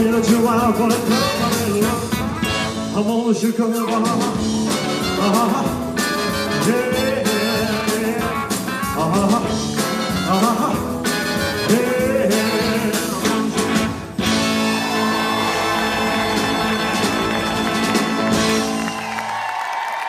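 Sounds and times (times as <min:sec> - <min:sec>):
person singing: 0:00.0 - 0:17.6
live rock and roll band: 0:00.0 - 0:19.9.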